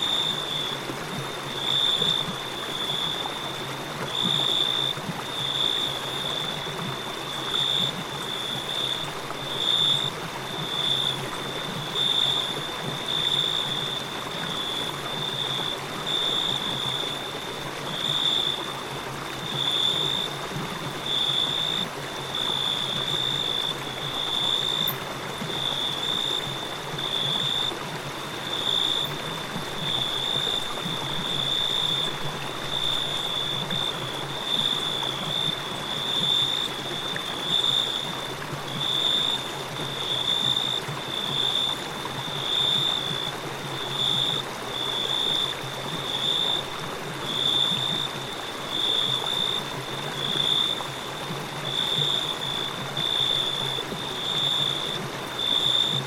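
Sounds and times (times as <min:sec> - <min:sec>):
crickets chirping: 0:00.0 - 0:56.0
river flowing: 0:00.0 - 0:56.0.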